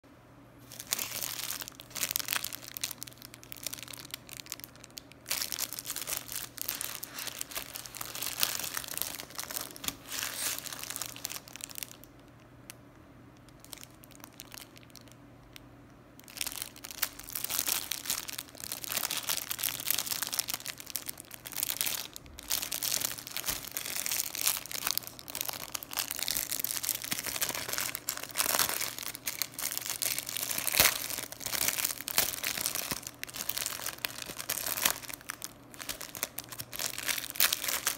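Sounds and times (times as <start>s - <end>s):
plastic wrapper crinkling: 0.6s - 12.8s, 13.4s - 15.6s, 16.2s - 37.9s.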